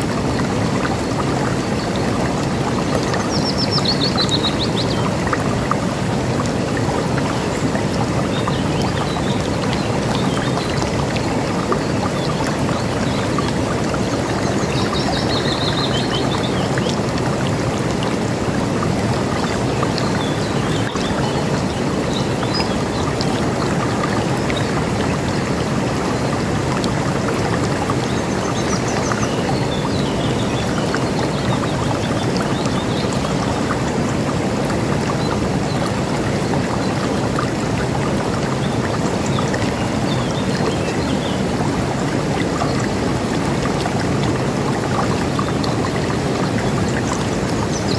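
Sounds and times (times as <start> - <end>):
river water rushing over rocks: 0.0 - 47.9.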